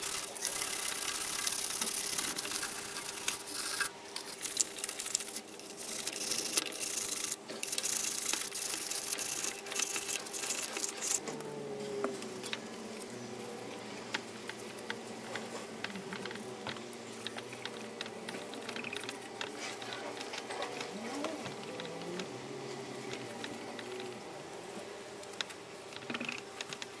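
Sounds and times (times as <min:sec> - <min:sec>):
small clicks: 0:00.0 - 0:24.3, 0:25.2 - 0:27.0.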